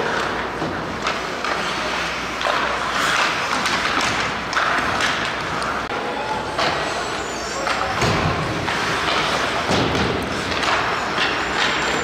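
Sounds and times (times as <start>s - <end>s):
rink crowd background: 0.0s - 12.0s
skates scraping ice: 0.0s - 12.0s.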